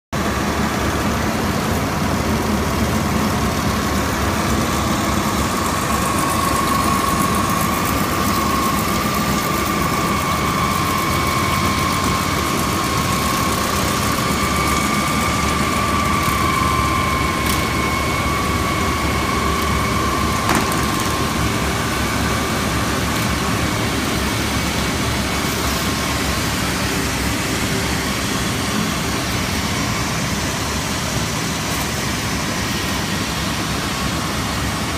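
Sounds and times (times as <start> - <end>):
fiber opening machine running: 0.2 - 32.9
steady high whine: 0.2 - 34.9.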